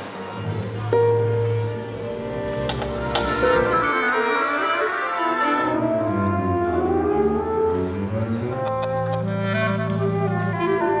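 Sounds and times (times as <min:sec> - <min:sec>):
orchestra playing slow chords: 0:00.4 - 0:11.0.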